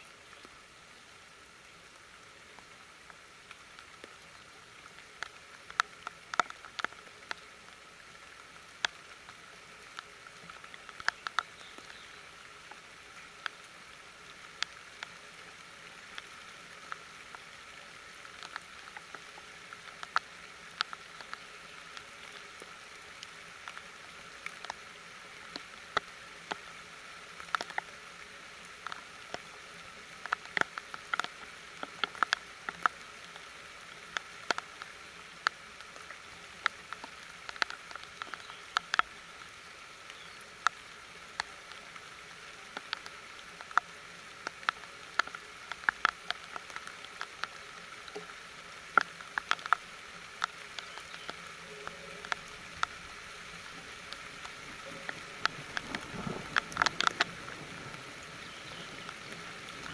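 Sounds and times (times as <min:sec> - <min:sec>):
rain hissing: 0:00.0 - 0:59.9
raindrops tapping: 0:00.0 - 0:59.9.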